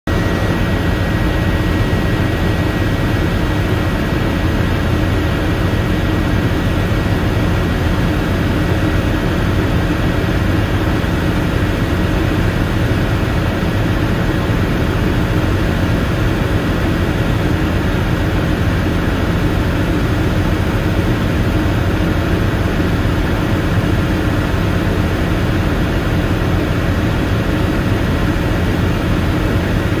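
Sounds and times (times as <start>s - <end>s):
helicopter engine and rotor rumble: 0.1s - 30.0s
helicopter whine: 0.1s - 30.0s.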